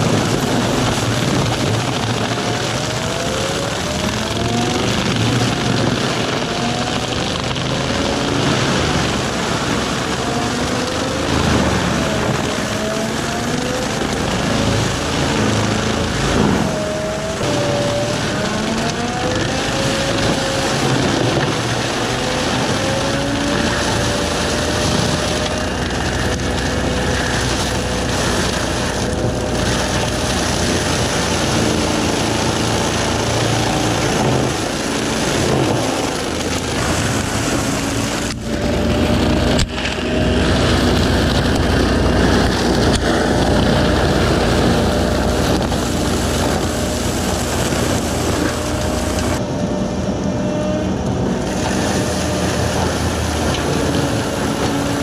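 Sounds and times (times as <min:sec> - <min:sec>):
mulcher grinding brush: 0:00.0 - 0:49.4, 0:51.1 - 0:55.0.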